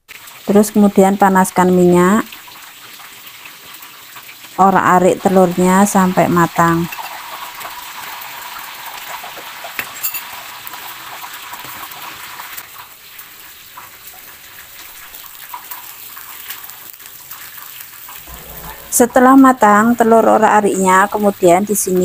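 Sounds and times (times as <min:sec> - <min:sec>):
eggs sizzling in oil: 0:00.0 - 0:22.0.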